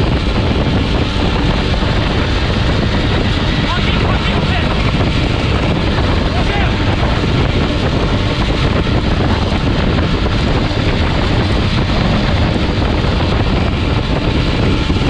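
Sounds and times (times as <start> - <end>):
motorbike running: 0.0 - 15.0
wind rushing over microphone: 0.0 - 15.0.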